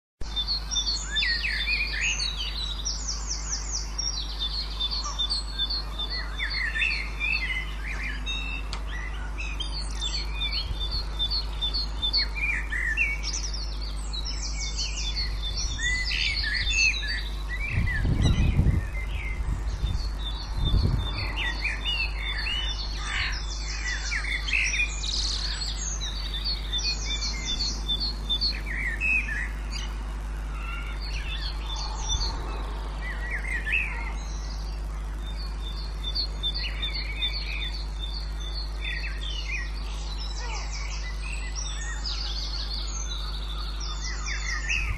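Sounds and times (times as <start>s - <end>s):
birds singing: 0.2s - 44.9s
steady low hum: 0.2s - 44.9s.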